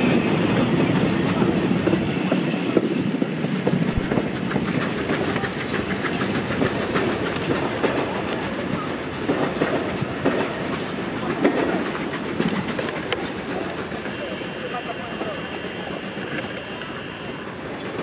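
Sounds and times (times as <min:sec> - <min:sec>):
train wheels clattering over rail joints: 0:00.0 - 0:18.0.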